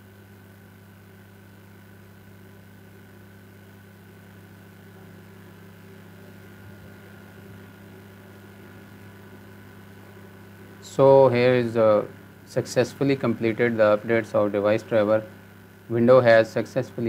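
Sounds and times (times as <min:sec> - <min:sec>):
faint low hum with hiss: 0:00.0 - 0:17.0.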